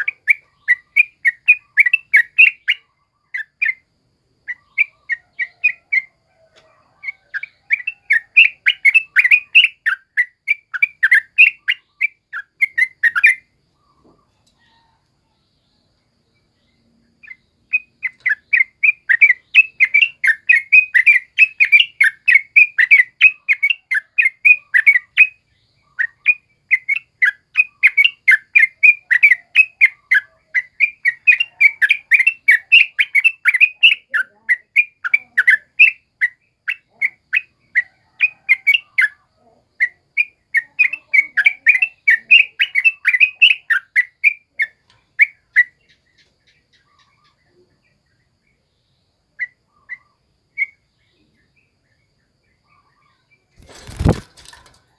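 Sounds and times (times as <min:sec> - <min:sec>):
bird chattering song: 0:00.0 - 0:54.9.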